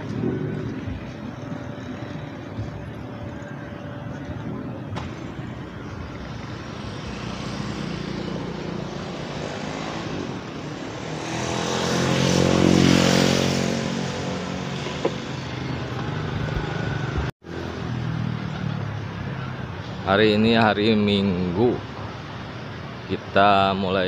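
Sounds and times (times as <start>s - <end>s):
vehicle engine passing: 0.0s - 19.4s.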